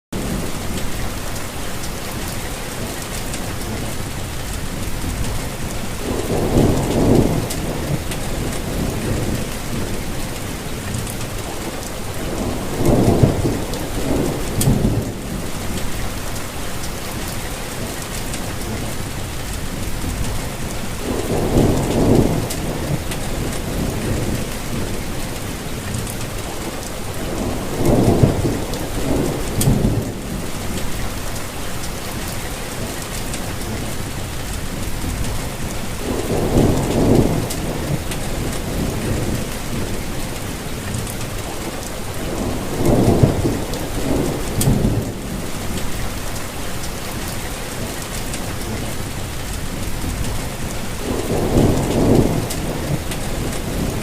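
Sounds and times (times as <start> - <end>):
rainfall hiss: 0.2 - 54.0.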